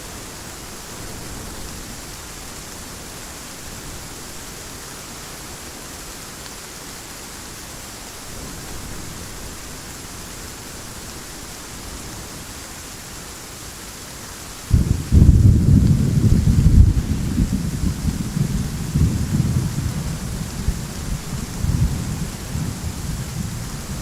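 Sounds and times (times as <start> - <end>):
heavy rain hissing: 0.0 - 24.0.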